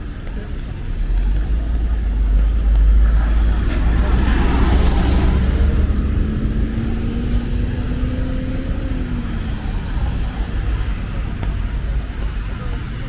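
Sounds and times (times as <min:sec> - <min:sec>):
engine hum: 0:00.0 - 0:13.0
street noise: 0:00.0 - 0:13.0
vehicle passing on wet road: 0:00.0 - 0:13.0.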